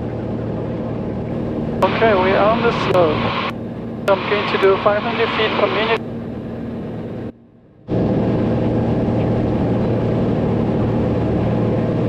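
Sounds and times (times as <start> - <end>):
aircraft engine and propeller droning: 0.0 - 12.0.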